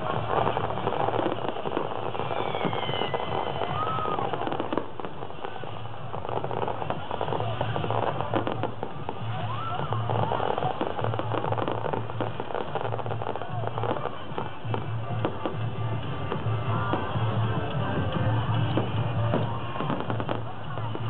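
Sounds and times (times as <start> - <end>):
fireworks crackling and popping: 0.0 - 21.0
fireworks launching and bursting: 0.0 - 21.0.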